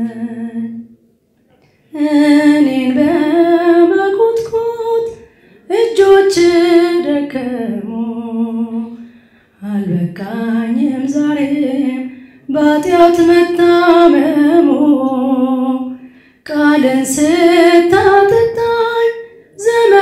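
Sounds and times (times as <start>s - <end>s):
woman singing a hymn unaccompanied: 0.0s - 0.9s, 1.9s - 20.0s.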